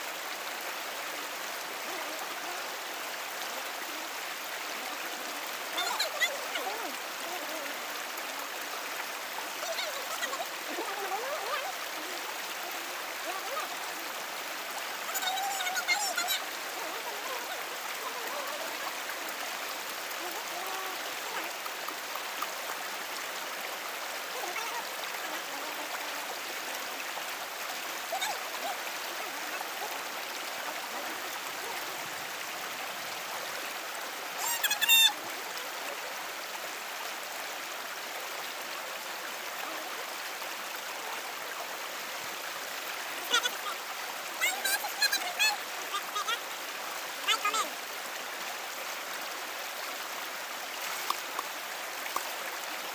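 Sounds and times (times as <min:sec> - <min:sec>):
stream water flowing: 0:00.0 - 0:52.9.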